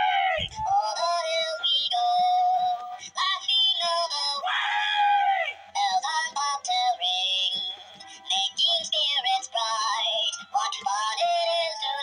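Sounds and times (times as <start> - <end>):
toy singing through small speaker: 0.4 - 4.5, 5.7 - 12.0.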